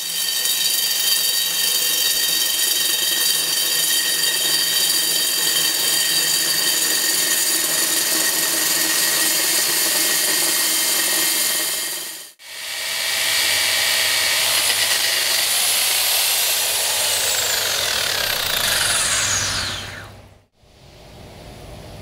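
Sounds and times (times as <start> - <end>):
diamond core drill whining: 0.0 - 20.5.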